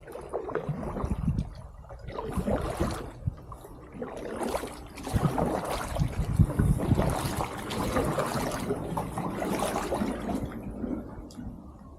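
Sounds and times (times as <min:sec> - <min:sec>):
paddle strokes splashing water: 0:00.0 - 0:11.6
low rumbling microphone noise: 0:00.6 - 0:11.9.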